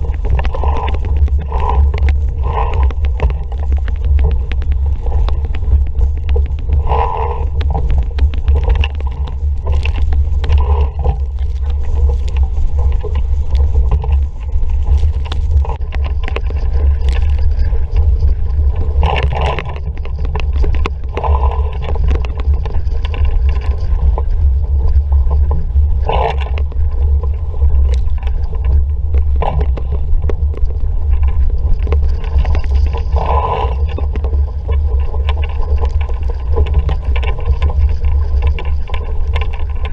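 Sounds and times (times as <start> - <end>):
water rushing along a hull: 0.0 - 39.9
wind buffeting microphone: 0.0 - 39.9.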